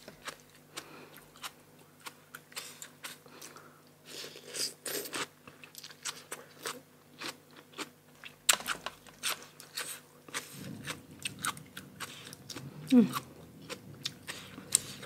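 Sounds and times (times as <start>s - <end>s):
crunchy eating and chewing: 0.0s - 15.0s.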